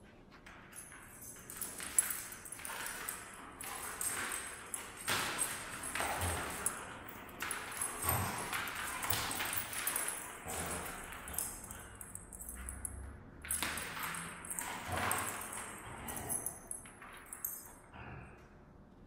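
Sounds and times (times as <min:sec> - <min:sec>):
dog paws scrabbling on rubber floor: 0:00.0 - 0:17.6.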